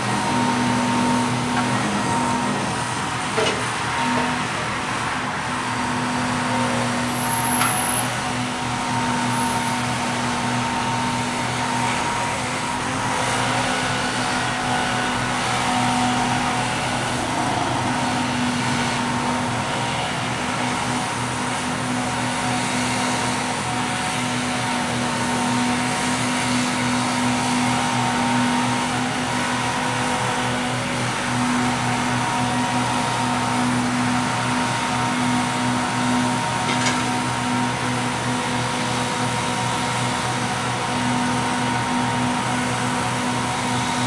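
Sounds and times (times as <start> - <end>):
diesel engine humming: 0.0 - 39.4.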